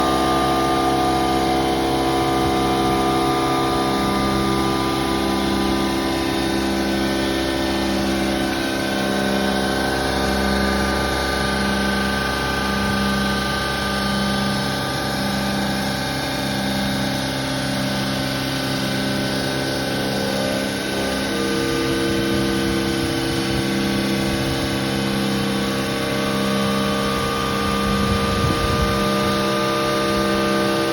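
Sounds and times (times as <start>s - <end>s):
machine tool running: 0.0s - 30.9s
pulsing low tone: 0.0s - 30.9s.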